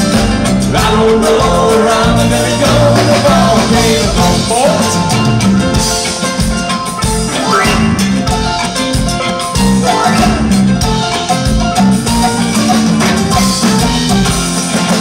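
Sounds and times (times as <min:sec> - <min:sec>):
drums steady beat: 0:00.0 - 0:15.0
live band instrumental music: 0:00.0 - 0:15.0.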